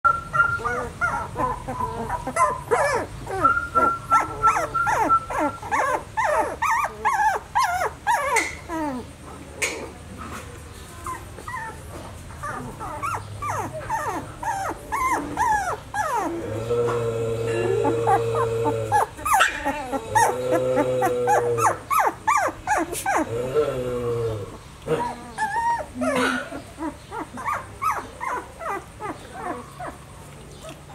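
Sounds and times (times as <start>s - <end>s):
puppies whining and yelping: 0.1s - 9.4s, 11.0s - 23.4s, 24.4s - 30.9s.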